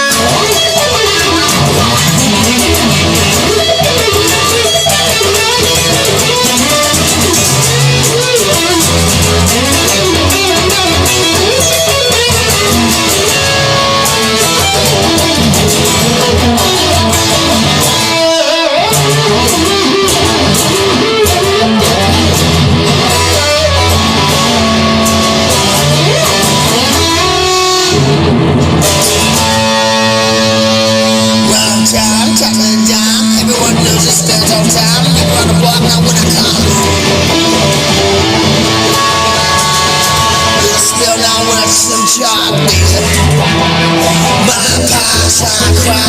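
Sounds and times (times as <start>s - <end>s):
bass guitar: 0.0s - 46.0s
electric guitar lead: 0.0s - 46.0s
steady drum beat: 0.0s - 46.0s.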